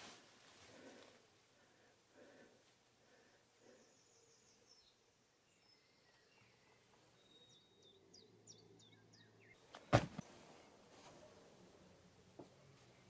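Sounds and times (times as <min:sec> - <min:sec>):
distant birds chirping: 0:00.7 - 0:13.0.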